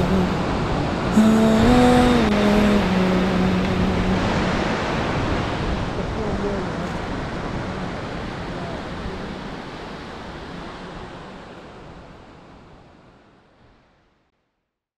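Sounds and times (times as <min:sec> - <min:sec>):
steady rushing noise: 0:00.0 - 0:13.6.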